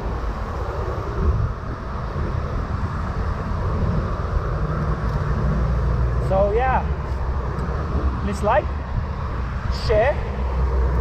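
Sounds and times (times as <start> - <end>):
road traffic noise: 0.0 - 11.0
wind rumbling on microphone: 0.0 - 11.0.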